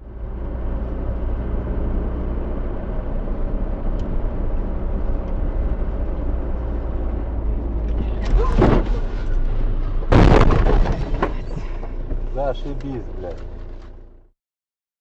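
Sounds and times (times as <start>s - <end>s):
car engine and road noise: 0.0s - 14.3s.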